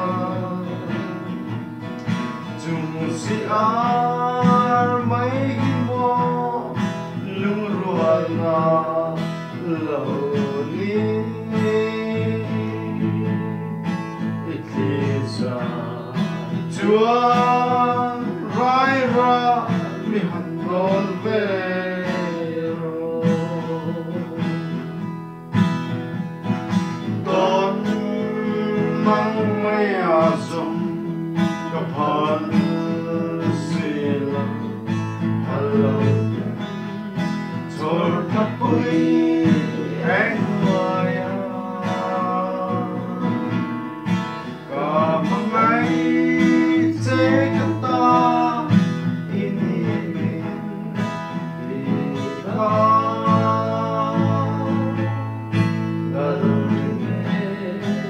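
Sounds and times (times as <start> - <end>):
man singing: 0.0 - 25.1, 26.7 - 58.0
acoustic guitar: 0.0 - 58.0.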